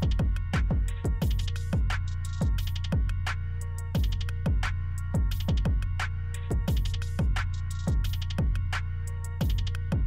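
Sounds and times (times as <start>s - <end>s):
deep kick drums: 0.0s - 3.3s, 4.0s - 8.7s, 9.4s - 10.0s
electronic music with steady beat: 0.0s - 10.0s.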